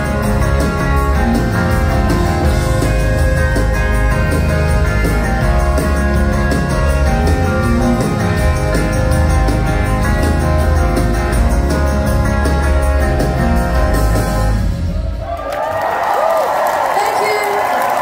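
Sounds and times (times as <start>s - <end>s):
live rock band playing chords: 0.0s - 15.2s
heavy bass: 0.0s - 15.3s.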